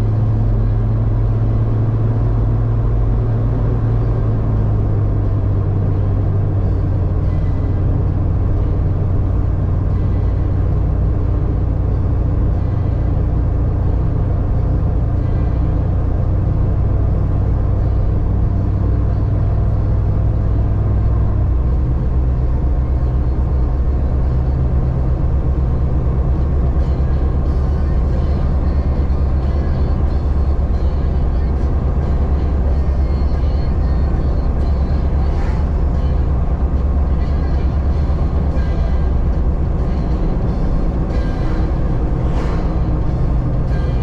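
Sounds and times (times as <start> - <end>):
car engine droning: 0.0 - 44.0.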